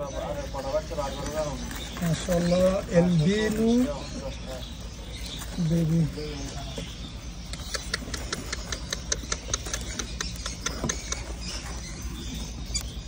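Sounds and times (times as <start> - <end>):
bird chicks squeaking: 0.0 - 13.0.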